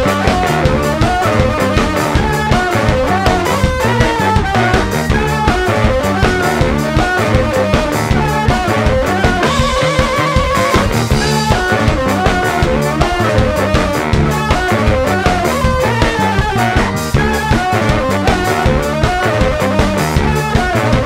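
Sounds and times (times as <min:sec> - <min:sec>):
bass guitar: 0:00.0 - 0:21.0
drum kit beat: 0:00.0 - 0:21.0
saxophone melody: 0:00.0 - 0:21.0.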